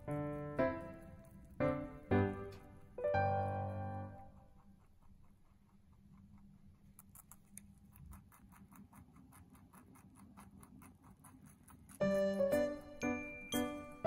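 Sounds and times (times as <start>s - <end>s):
rabbit chewing: 0.0s - 14.0s.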